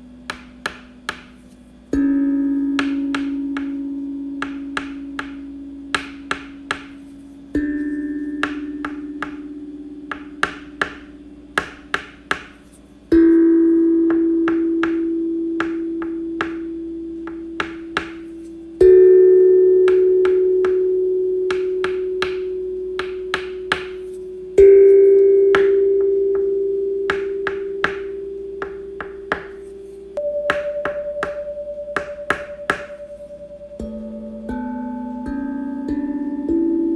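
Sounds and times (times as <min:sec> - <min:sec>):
struck ringing tone: 0:00.0 - 0:36.9.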